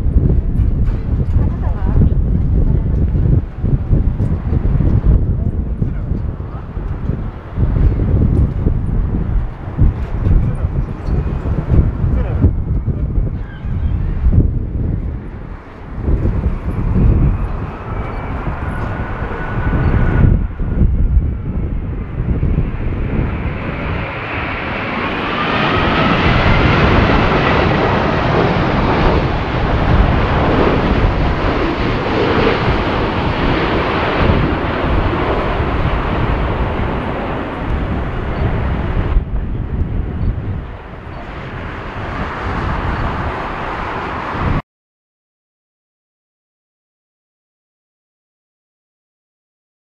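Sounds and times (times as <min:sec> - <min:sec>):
jet engine rush with whine: 0:00.0 - 0:44.6
wind buffeting microphone: 0:00.0 - 0:44.6.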